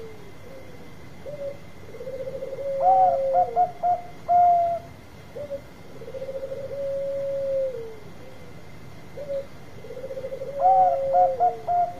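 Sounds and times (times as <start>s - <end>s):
higher shorter dove coos: 0.0s - 8.5s, 9.1s - 11.9s
dove cooing: 0.0s - 11.9s.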